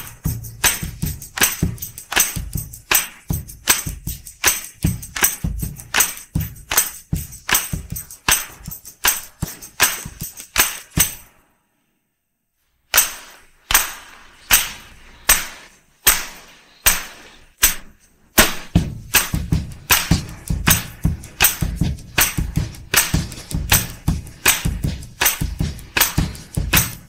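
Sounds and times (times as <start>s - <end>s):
drum tambourine and handclap beat: 0.0s - 11.4s, 12.9s - 27.0s.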